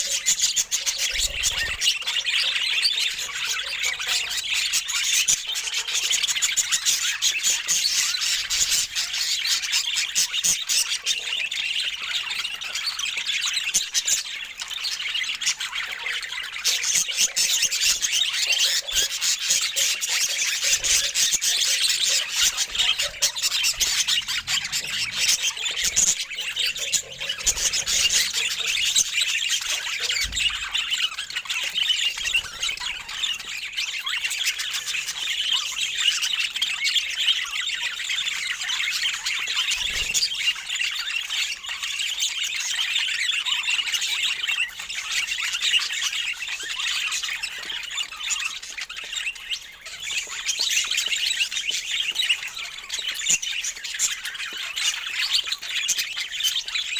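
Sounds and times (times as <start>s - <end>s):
budgerigars chattering: 0.0s - 56.9s.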